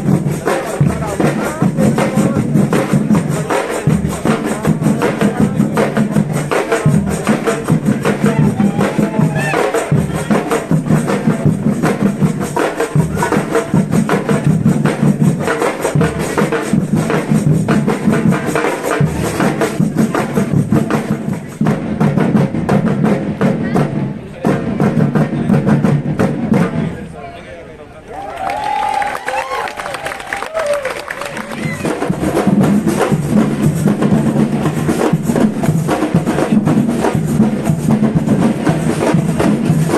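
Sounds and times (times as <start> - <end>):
rapid percussion: 0.0 - 27.2, 28.6 - 39.9.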